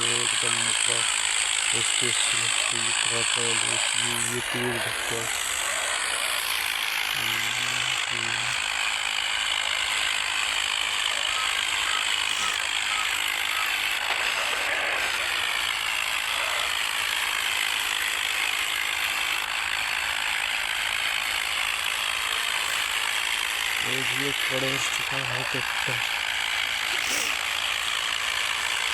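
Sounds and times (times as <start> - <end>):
tractor diesel engines under load: 0.0 - 28.9.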